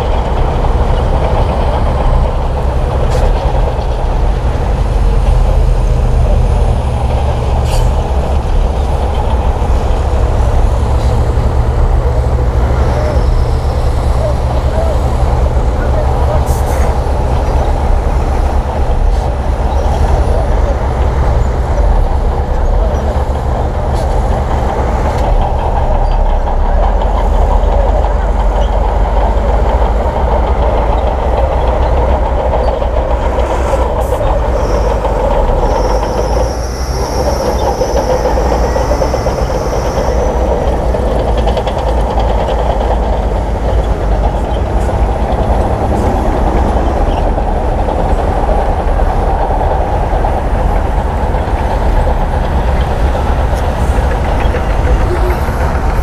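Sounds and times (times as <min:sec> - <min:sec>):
diesel engine running: 0:00.0 - 0:56.0
steel tracks clattering: 0:00.0 - 0:56.0.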